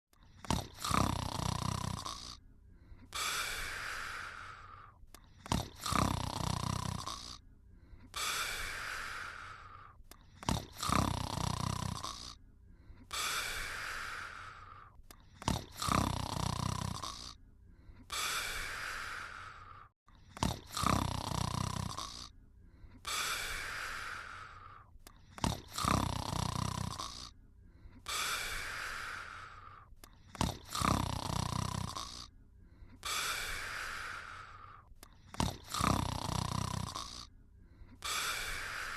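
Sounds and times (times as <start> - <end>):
person snoring: 0.2 - 38.9.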